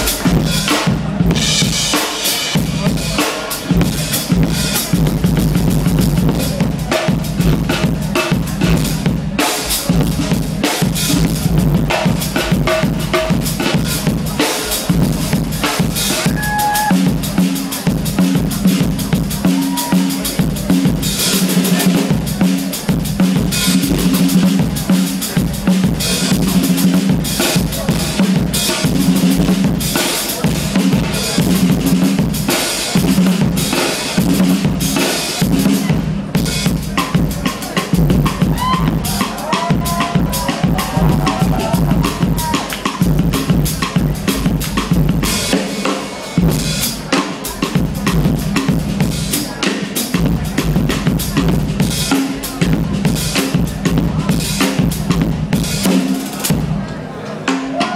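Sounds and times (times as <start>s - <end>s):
drum kit solo: 0.0s - 57.9s.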